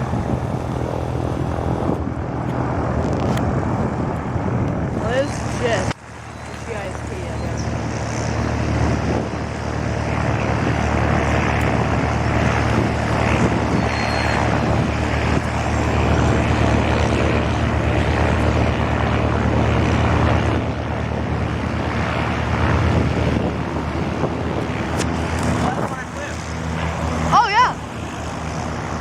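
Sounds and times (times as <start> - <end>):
propeller aircraft engine drone: 0.0 - 29.0.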